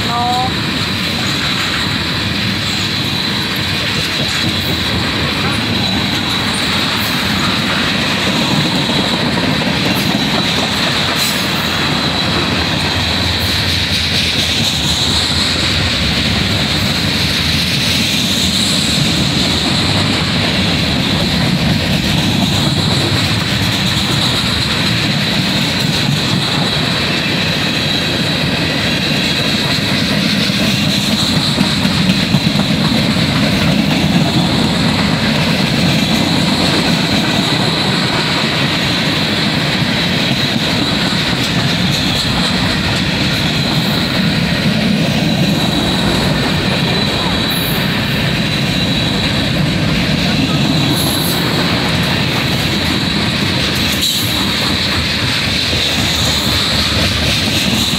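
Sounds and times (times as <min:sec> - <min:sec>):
train clanks: 0:00.0 - 0:57.9
train wheels rumbling on rail: 0:00.0 - 0:57.9.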